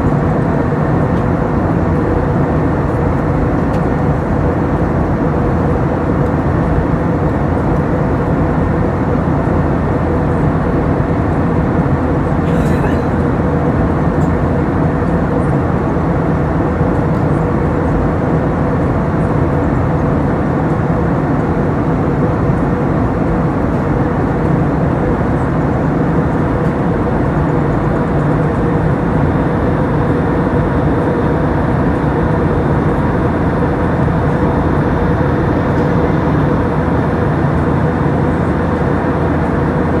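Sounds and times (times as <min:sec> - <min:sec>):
jet engines droning: 0:00.0 - 0:19.8, 0:24.3 - 0:40.0.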